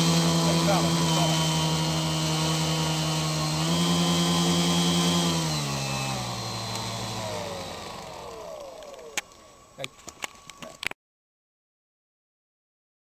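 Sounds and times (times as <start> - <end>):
electric motors and propellers whining: 0.0 - 11.0.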